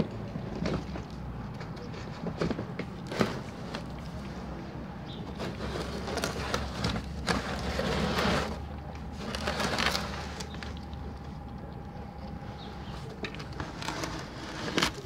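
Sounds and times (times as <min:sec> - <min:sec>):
cats lapping milk: 0:00.0 - 0:15.0.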